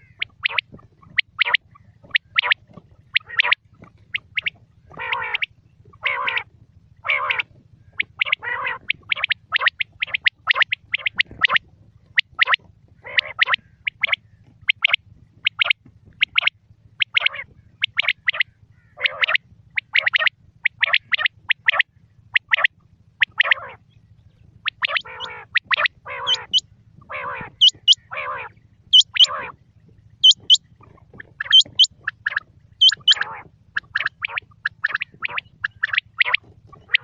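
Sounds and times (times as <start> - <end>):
faint low hum: 0.0 - 37.0
harsh rasping quail calls: 0.0 - 37.0
quail calling: 0.0 - 37.0.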